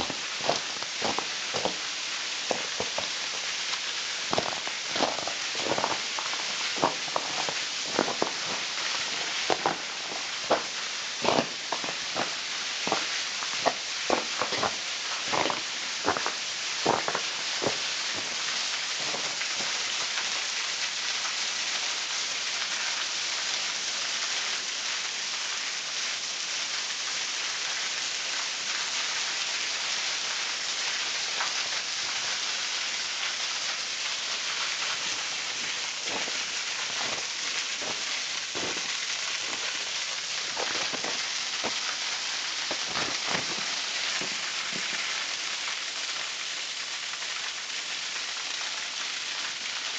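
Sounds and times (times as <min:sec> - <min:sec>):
waterfall splashing: 0:00.0 - 0:49.9.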